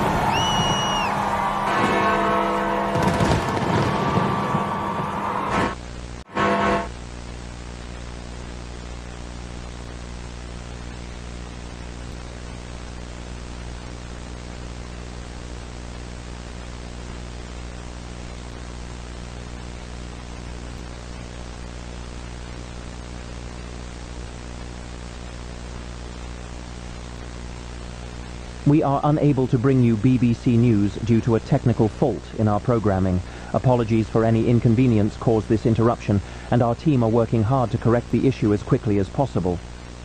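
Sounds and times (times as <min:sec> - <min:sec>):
low electrical hum: 0:00.0 - 0:40.0
television static hiss: 0:00.0 - 0:40.0.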